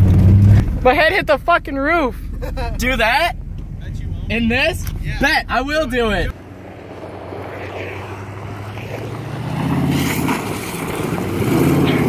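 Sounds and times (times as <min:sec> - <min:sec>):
pickup truck engine driving: 0:00.0 - 0:12.0.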